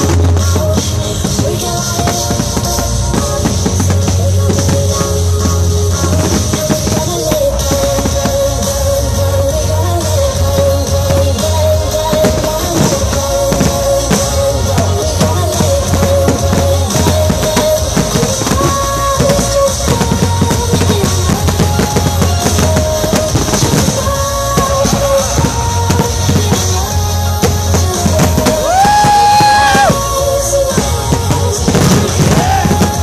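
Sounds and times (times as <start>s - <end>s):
fireworks bangs and crackle: 0.0s - 33.0s
loud music with drum beat: 0.0s - 33.0s.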